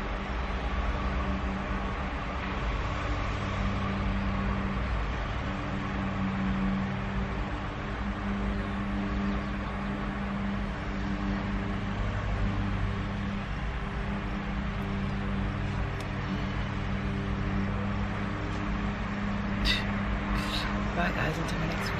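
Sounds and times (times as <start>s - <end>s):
car engine and ventilation hum: 0.0s - 21.9s.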